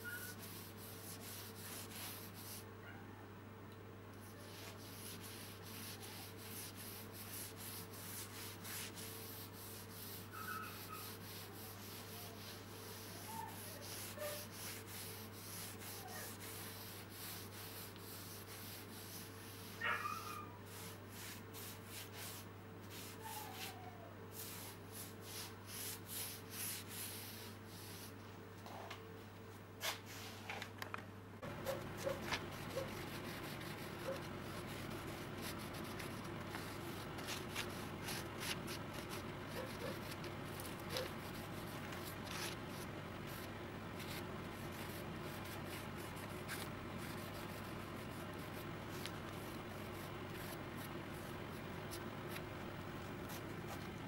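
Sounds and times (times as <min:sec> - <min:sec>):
steady low hum: 0:00.0 - 0:29.8, 0:30.9 - 0:54.0
hand wiping wood: 0:00.1 - 0:02.6, 0:04.2 - 0:28.2, 0:31.5 - 0:54.0.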